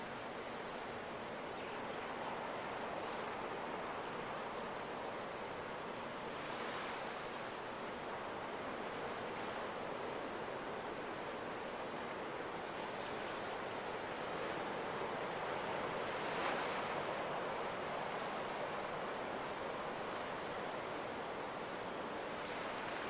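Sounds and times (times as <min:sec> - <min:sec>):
ocean surf washing on beach: 0:00.0 - 0:23.0.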